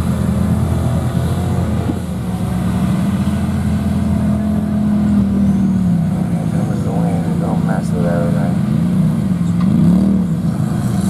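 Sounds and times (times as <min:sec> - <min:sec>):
truck engines running at low revs: 0:00.0 - 0:11.0.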